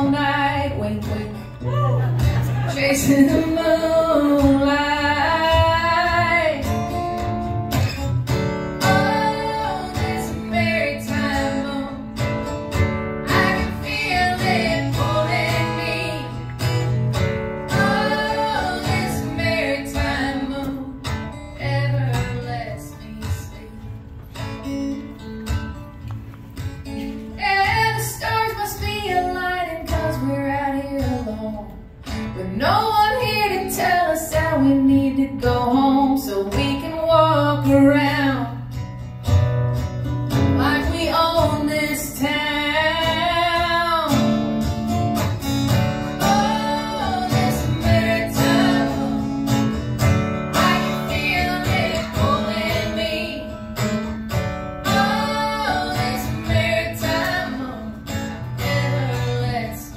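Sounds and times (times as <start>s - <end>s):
woman singing: 0.0s - 7.0s, 8.8s - 12.3s, 13.2s - 17.0s, 17.6s - 23.9s, 27.3s - 38.8s, 40.5s - 44.6s, 46.1s - 49.7s, 50.5s - 53.8s, 54.8s - 59.9s
strummed acoustic guitar: 0.0s - 59.9s.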